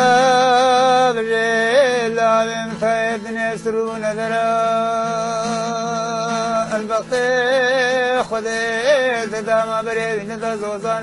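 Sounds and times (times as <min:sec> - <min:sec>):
man singing ornamented melody: 0:00.0 - 0:11.0.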